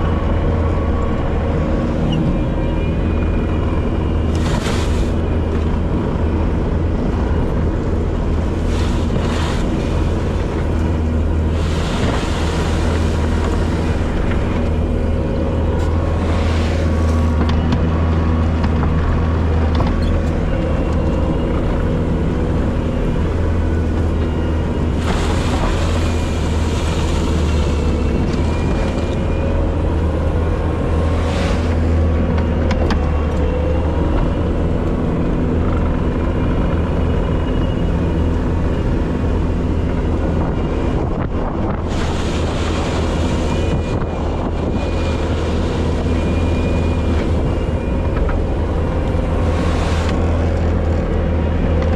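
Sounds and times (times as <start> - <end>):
diesel engine droning: 0.0 - 51.9.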